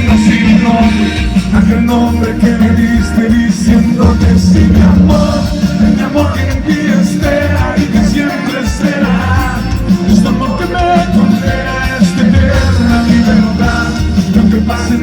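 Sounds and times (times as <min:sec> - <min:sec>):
pop-rock band music: 0:00.0 - 0:15.0.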